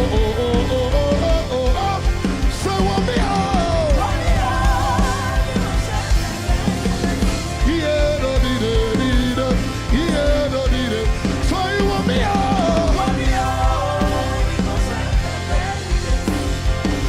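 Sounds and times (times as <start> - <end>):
drum beat: 0.0 - 17.0
gospel band playing: 0.0 - 17.0
voices singing: 0.0 - 17.0.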